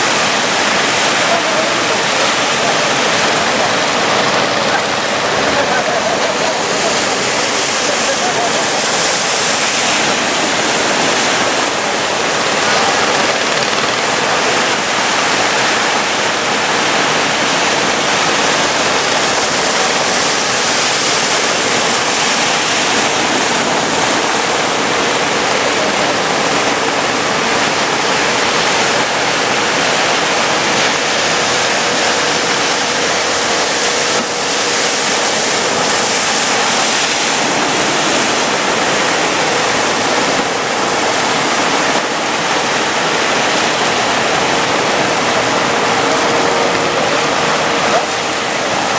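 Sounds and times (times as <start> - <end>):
rushing water: 0.0 - 48.9
waves breaking: 0.0 - 48.9.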